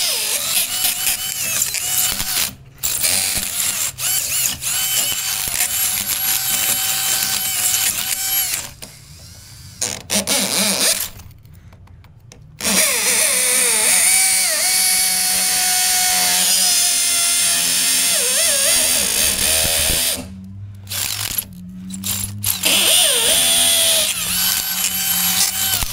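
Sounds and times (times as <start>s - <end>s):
power tool motor whining: 0.0s - 11.3s, 12.6s - 25.9s.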